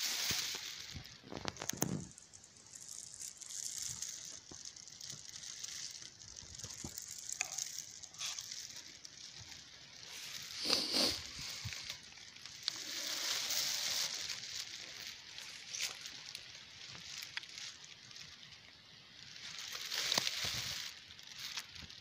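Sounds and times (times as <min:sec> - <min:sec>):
bushes rustling: 0:00.0 - 0:22.0.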